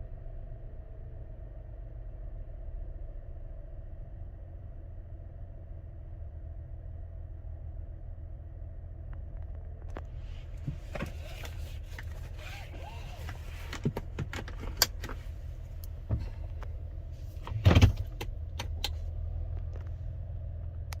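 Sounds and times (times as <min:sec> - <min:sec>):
car engine idling: 0:00.4 - 0:21.0.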